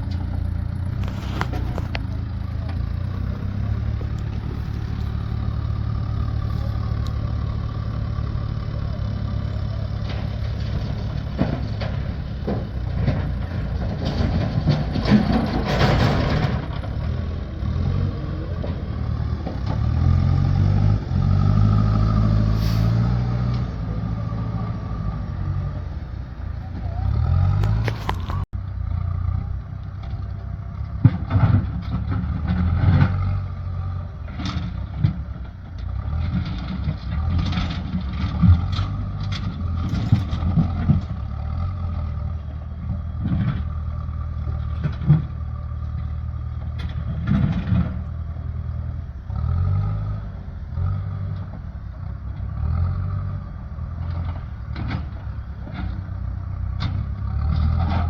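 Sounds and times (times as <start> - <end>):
large engine running: 0.0 - 58.0.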